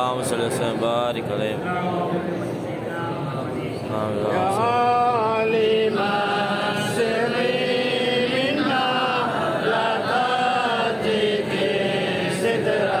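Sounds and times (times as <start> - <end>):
men chanting devotional recitation: 0.0 - 13.0.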